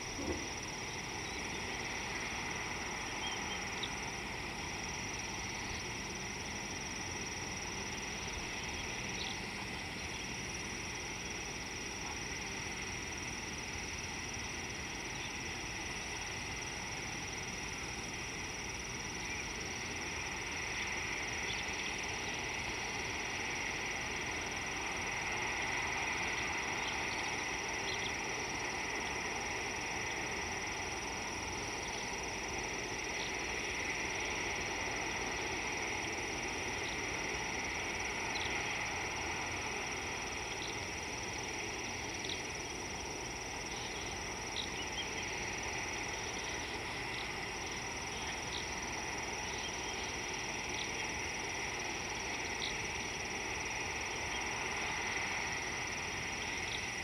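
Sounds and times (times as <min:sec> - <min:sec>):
constant hiss: 0:00.0 - 0:57.0
insects calling: 0:00.0 - 0:57.0.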